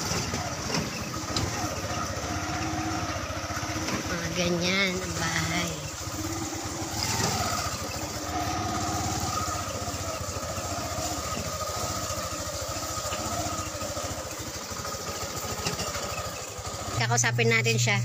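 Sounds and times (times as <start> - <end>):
motorcycle engine puttering: 0.0 - 18.0.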